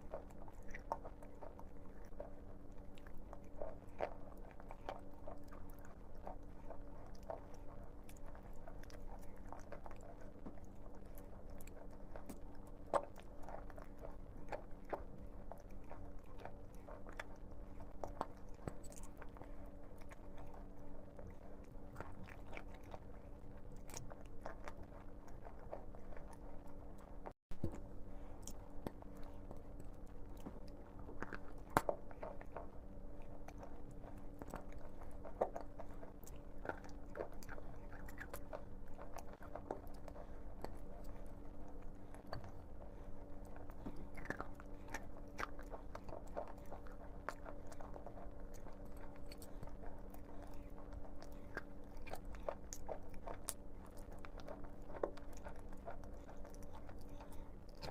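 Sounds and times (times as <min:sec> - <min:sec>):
chewing chalk crunches: 0:00.0 - 0:57.9
faint steady hum: 0:00.0 - 0:57.9.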